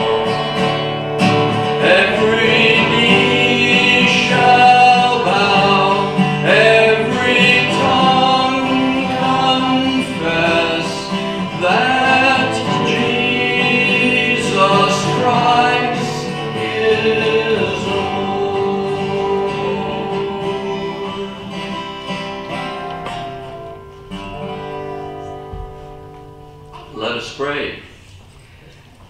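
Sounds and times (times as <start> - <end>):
congregation singing a hymn: 0.0 - 26.2
acoustic guitar: 0.0 - 29.0.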